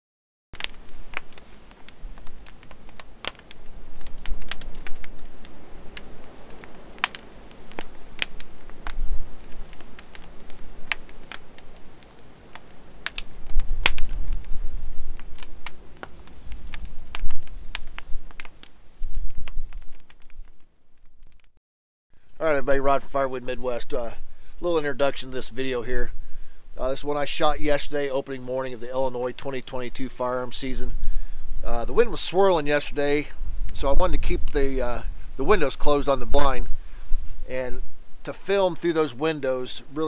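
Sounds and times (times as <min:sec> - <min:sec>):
fire low rumble: 0:00.6 - 0:21.5, 0:22.2 - 0:40.0
firewood crackling and popping: 0:00.6 - 0:21.6, 0:22.2 - 0:40.0.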